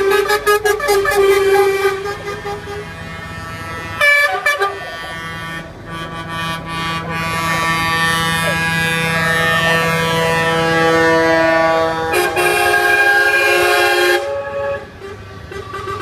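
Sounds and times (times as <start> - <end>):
truck air horns: 0.0 - 16.0
trucks droning: 0.0 - 16.0.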